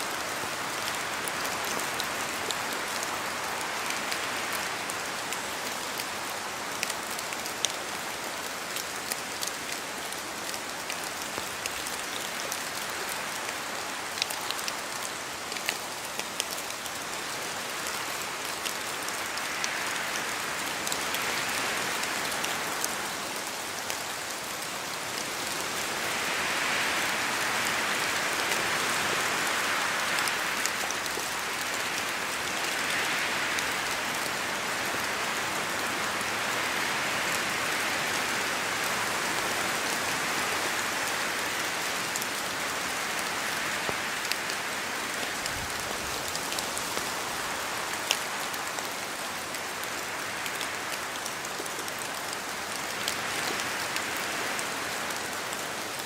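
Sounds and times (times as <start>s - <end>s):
rain falling on forest: 0.0s - 56.0s
wind: 0.0s - 56.0s.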